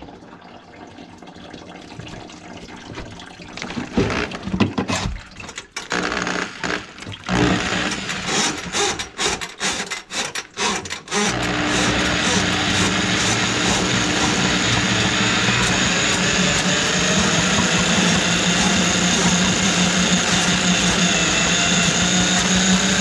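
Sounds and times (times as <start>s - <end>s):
drill-driven drain auger: 3.9s - 23.0s.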